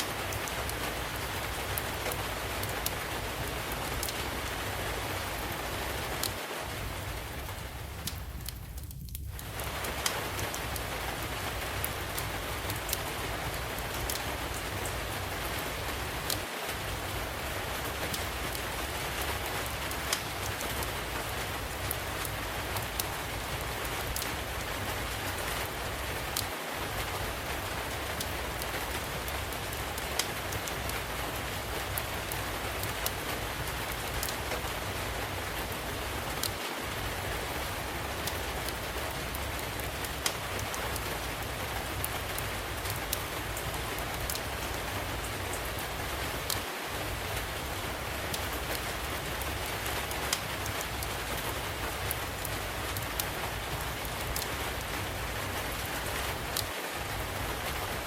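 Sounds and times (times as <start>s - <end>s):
steady rainfall: 0.0s - 58.0s
wood fire crackling: 0.0s - 58.0s.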